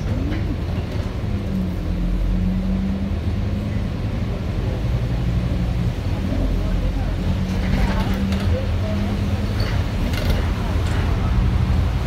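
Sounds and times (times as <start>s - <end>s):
bus diesel engine droning: 0.0s - 12.0s
bus running noise: 0.0s - 12.0s.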